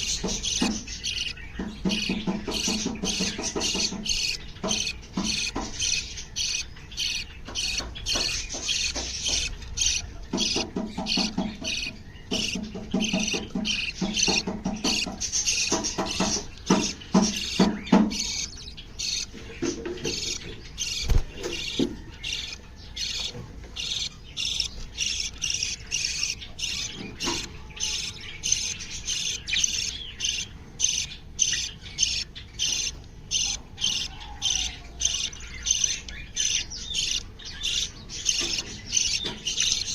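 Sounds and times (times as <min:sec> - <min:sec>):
bird squawks: 0:00.0 - 0:39.9
birds chirping: 0:00.0 - 0:39.9.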